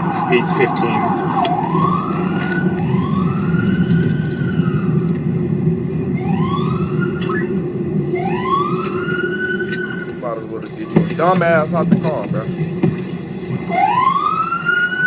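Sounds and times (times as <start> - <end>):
engine and road rumble: 0.0 - 15.0
police siren wailing: 0.0 - 15.0.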